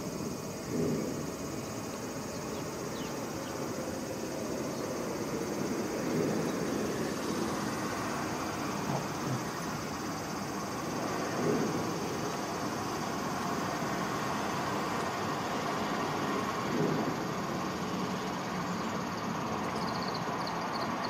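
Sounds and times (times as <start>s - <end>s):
distant road traffic: 0.0s - 21.0s
faint insect drone: 0.0s - 21.0s.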